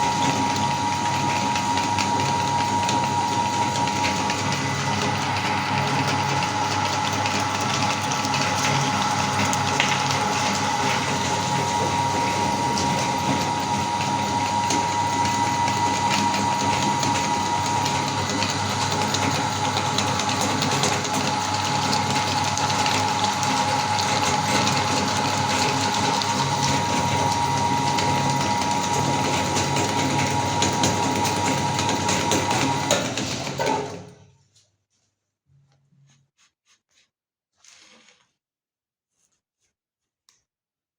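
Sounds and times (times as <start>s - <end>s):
electric meat grinder running: 0.0s - 34.2s.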